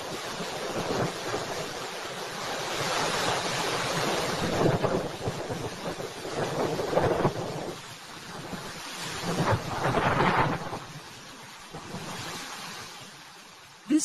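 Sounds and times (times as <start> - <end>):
rain: 0.0 - 14.0.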